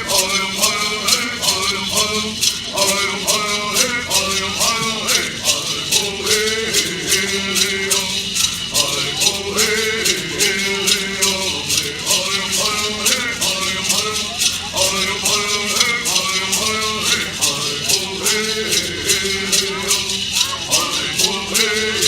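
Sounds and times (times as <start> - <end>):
gourd rattles shaken: 0.0 - 22.0
person singing: 0.0 - 22.0.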